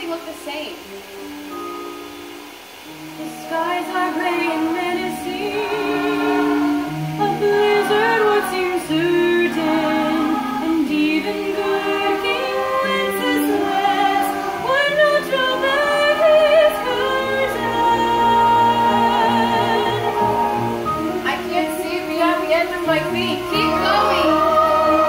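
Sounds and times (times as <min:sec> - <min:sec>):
girl singing slow song: 0:03.0 - 0:25.0
accompanying low notes: 0:03.2 - 0:25.0.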